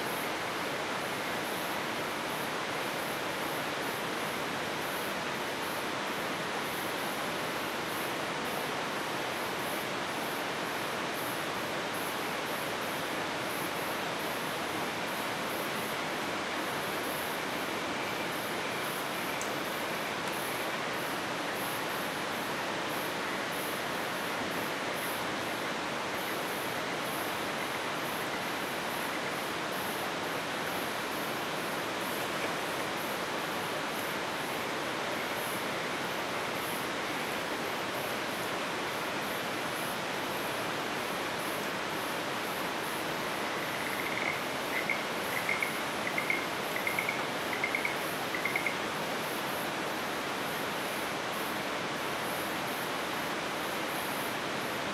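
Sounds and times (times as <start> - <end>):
insects chirping: 0.0 - 54.9
steady rushing hiss: 0.0 - 54.9.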